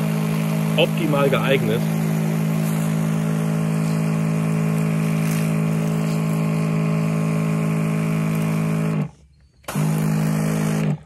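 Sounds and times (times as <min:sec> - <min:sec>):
water spray hissing: 0:00.0 - 0:08.9
electric pump motor hum: 0:00.0 - 0:11.0.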